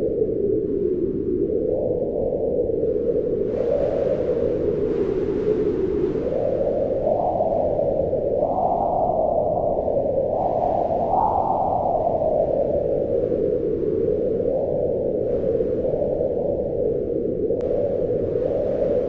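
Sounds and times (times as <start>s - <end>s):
strong wind howling: 0.0s - 19.0s.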